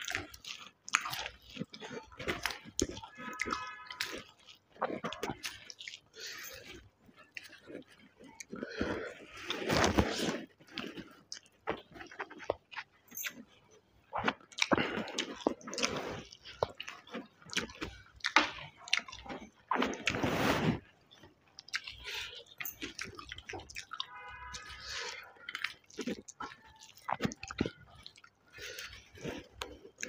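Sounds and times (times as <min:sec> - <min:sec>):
wet chewing and lip smacks: 0:00.0 - 0:20.2, 0:21.0 - 0:30.0.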